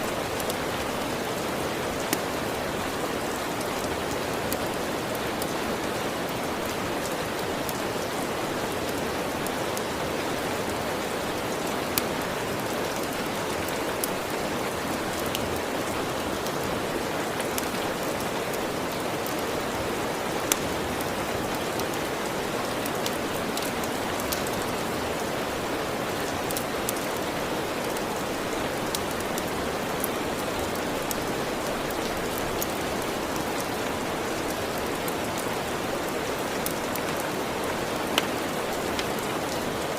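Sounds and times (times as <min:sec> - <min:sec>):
fireplace fire crackling: 0:00.0 - 0:39.9
steady rain falling: 0:00.0 - 0:39.9.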